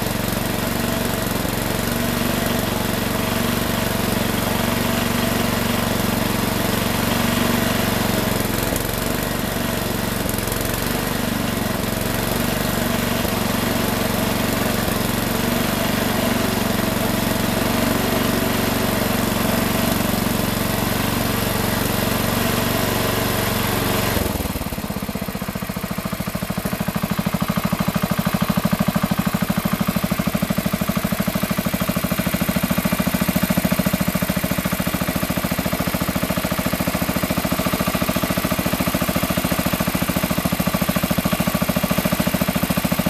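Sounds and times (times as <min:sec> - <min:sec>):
small engine idling: 0:00.0 - 0:43.0.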